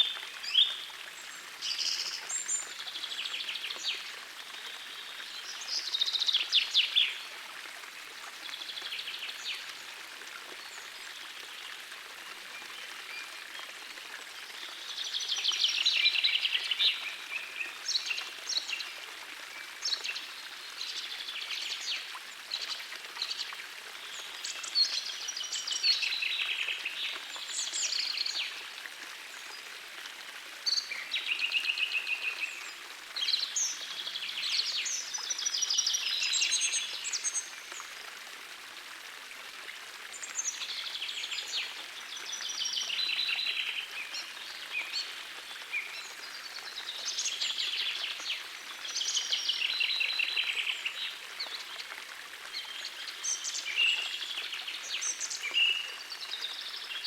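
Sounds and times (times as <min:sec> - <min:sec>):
gentle stream flowing: 0:00.0 - 0:57.0.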